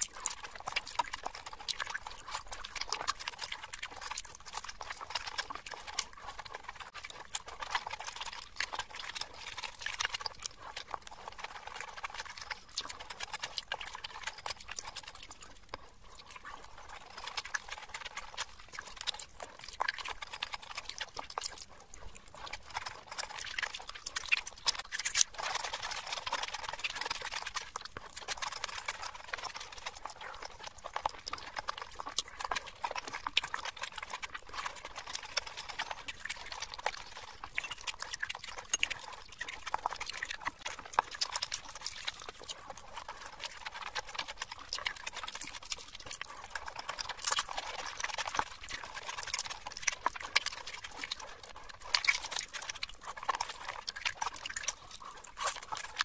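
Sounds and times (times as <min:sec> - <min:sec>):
wet chewing and lip smacks: 0:00.0 - 0:56.0.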